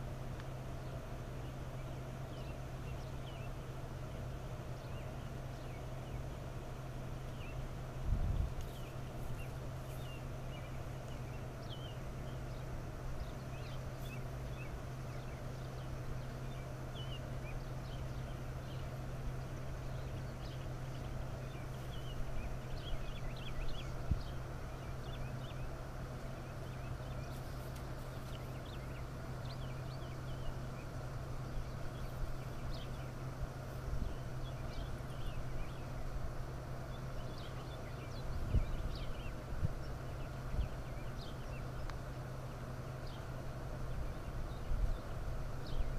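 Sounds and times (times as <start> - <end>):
small birds chirping: 0.0 - 45.9
steady low hum: 0.0 - 45.9.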